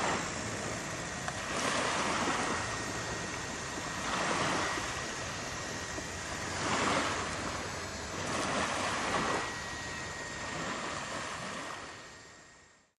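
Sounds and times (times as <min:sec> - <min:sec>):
faint steady high tone: 0:00.0 - 0:13.0.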